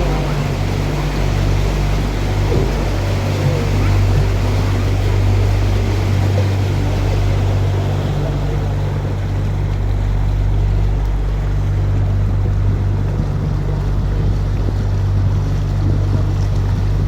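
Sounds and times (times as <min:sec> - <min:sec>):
boat motor humming: 0:00.0 - 0:17.0
rushing water: 0:00.0 - 0:17.0.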